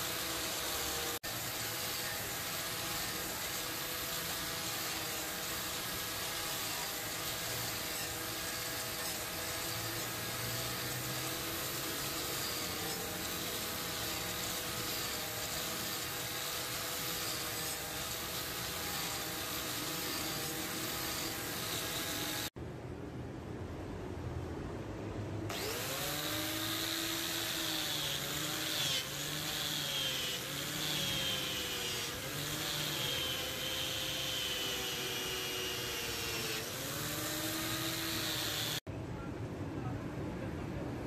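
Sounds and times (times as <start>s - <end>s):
angle grinder motor running: 0.0s - 22.5s, 25.5s - 38.9s.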